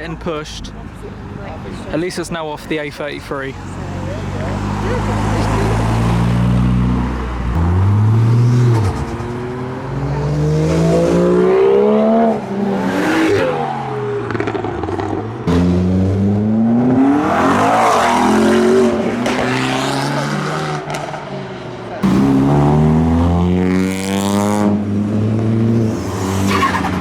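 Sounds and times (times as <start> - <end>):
cars accelerating past: 3.6 - 27.0.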